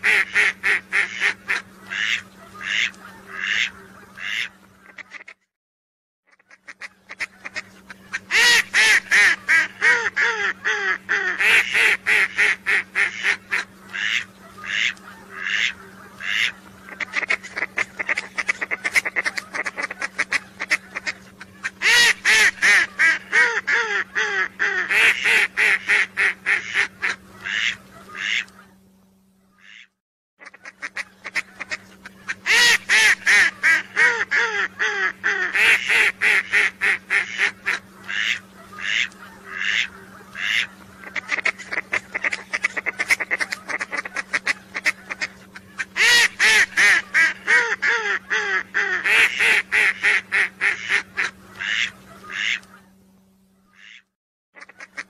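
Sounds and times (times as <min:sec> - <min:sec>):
steady low hum: 0:00.0 - 0:05.5, 0:06.3 - 0:55.0
whistling duck calls: 0:06.3 - 0:28.7, 0:29.5 - 0:52.9.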